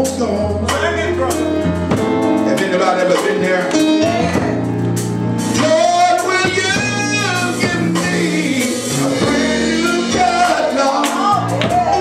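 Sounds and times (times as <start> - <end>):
man singing: 0.0 - 1.7, 2.4 - 12.0.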